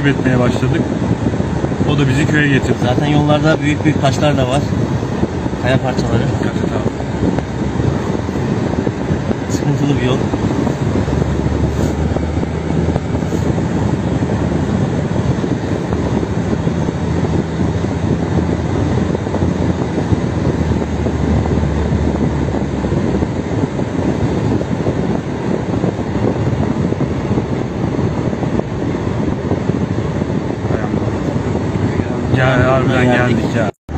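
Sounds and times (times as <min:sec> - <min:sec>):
car engine and tyre noise: 0:00.0 - 0:33.9.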